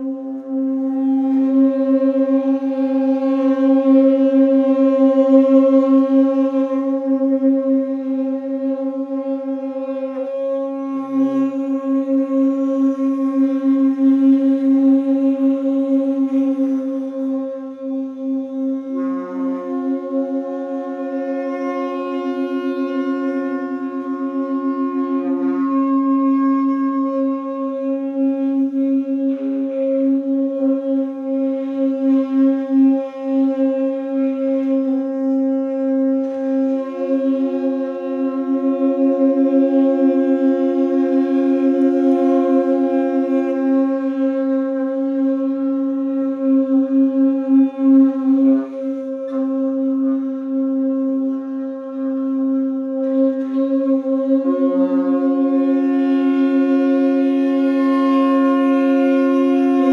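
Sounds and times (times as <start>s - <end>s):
saxophones holding long notes: 0.0s - 59.9s.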